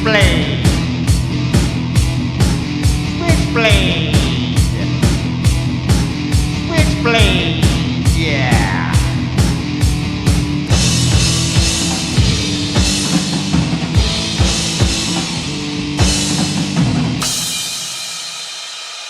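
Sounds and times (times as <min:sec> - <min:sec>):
rock band playing: 0:00.0 - 0:18.6.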